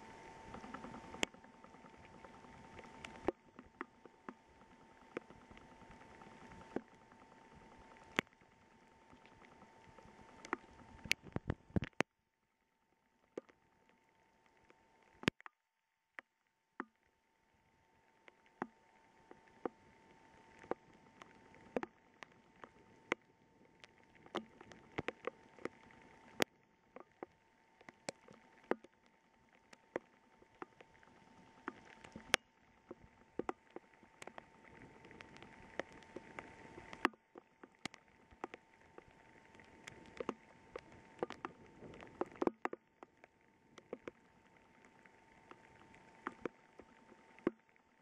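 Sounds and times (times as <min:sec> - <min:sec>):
faint steady tone: 0:00.0 - 0:48.0.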